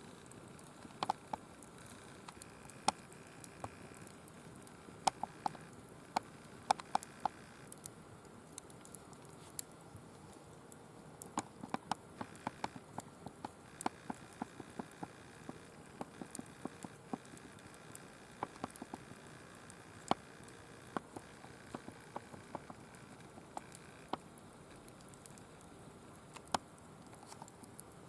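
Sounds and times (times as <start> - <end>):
faint steady hiss: 0.0 - 28.0
firewood crackling and popping: 0.1 - 28.0.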